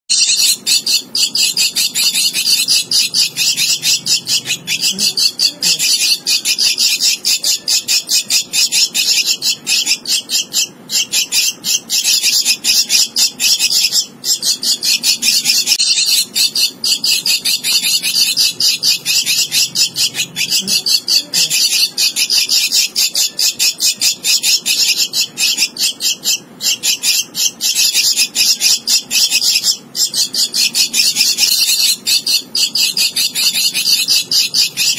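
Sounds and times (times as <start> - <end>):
chick begging calls: 0.2 - 34.9.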